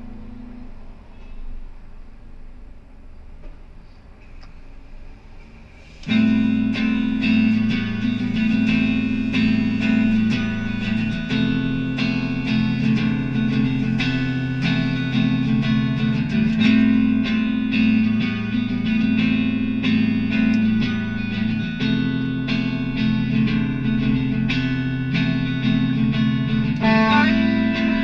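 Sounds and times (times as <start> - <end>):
electric guitar playing: 0.0 - 1.6, 6.0 - 28.0.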